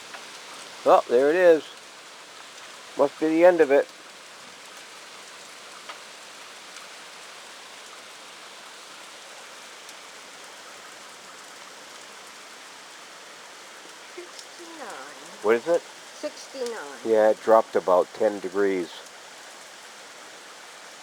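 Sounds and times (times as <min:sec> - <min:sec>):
faint hail ticks: 0:00.0 - 0:21.0
steady rain falling: 0:00.0 - 0:21.0.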